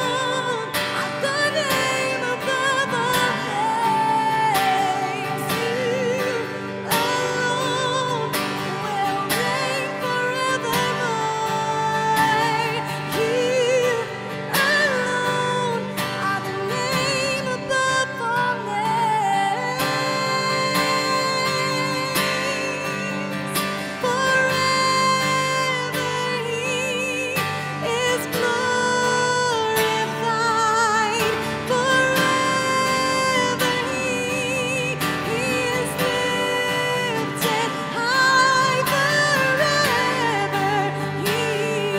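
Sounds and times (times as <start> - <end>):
acoustic guitar strumming: 0.0 - 41.9
woman singing with vibrato: 0.0 - 41.9.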